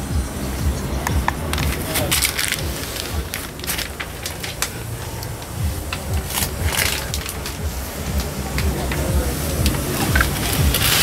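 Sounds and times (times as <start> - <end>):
low uneven rumble: 0.0 - 11.0
paper and plastic crackling: 1.1 - 11.0.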